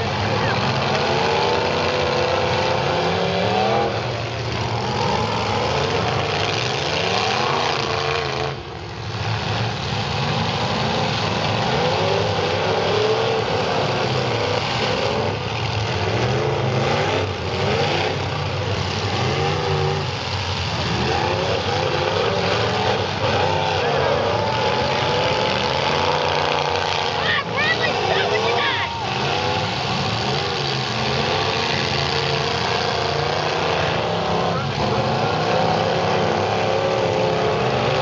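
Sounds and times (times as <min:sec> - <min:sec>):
car engines revving hard: 0:00.0 - 0:38.0.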